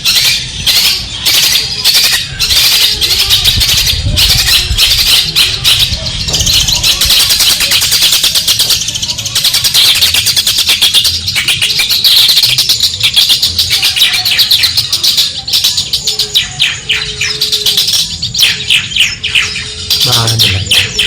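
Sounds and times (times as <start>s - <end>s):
bird chattering scratchy notes: 0.0s - 21.0s.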